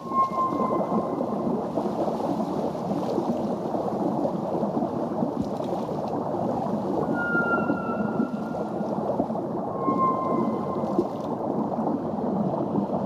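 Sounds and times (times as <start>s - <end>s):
underwater rushing water: 0.0s - 13.0s.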